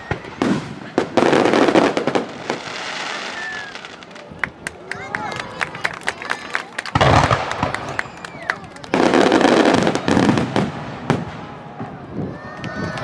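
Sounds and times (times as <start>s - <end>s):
fireworks crackling pops: 0.0s - 12.0s
loud firework bursts: 0.0s - 13.0s.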